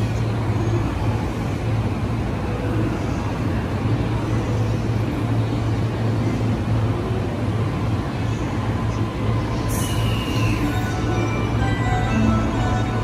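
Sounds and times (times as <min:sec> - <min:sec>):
electric train idling hum: 0:00.0 - 0:13.0.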